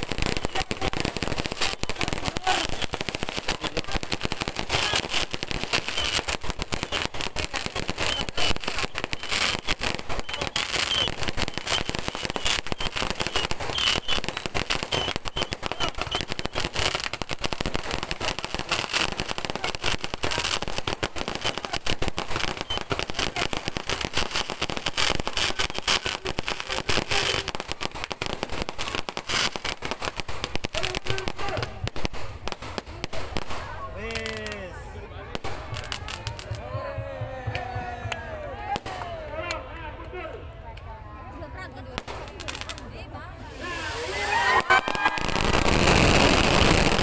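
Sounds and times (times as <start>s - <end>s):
fireworks and firecrackers banging: 0.0s - 39.6s, 40.8s - 47.0s.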